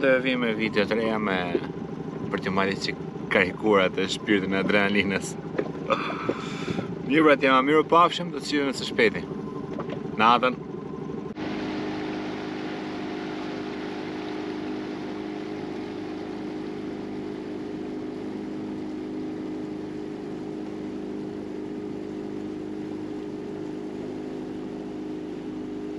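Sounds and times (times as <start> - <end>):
outboard motor humming: 0.0 - 25.9.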